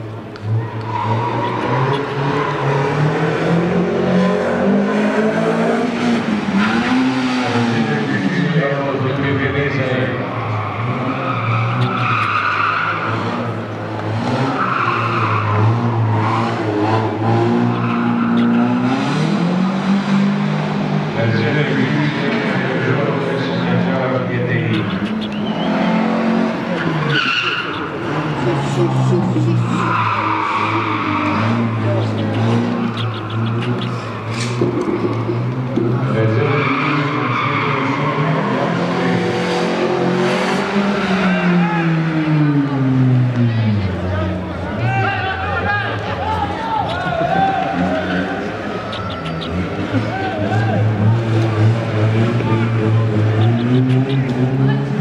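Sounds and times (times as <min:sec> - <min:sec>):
race car engine running hard: 0:00.0 - 0:55.0
tyres squealing and skidding: 0:00.0 - 0:55.0.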